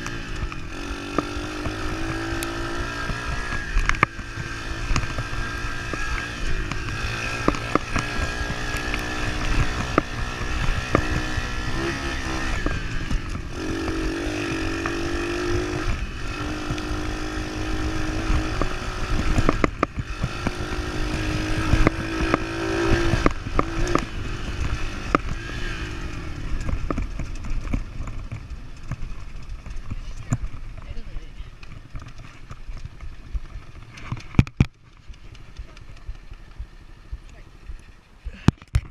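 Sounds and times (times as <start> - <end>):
motorbike engine revving: 0.0 - 38.9
wind rumble on microphone: 0.0 - 38.9.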